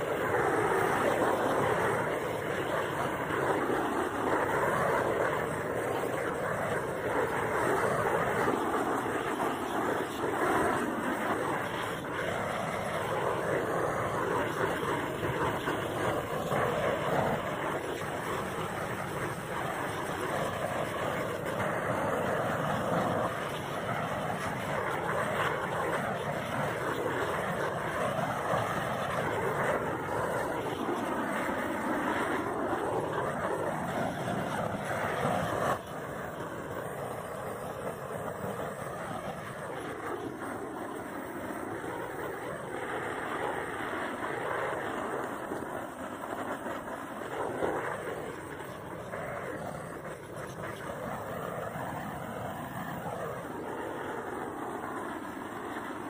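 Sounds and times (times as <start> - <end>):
propane torch flame rushing: 0.0 - 56.0.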